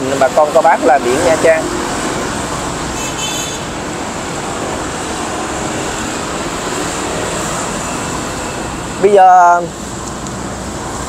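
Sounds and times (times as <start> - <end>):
roadside traffic: 0.0 - 11.0.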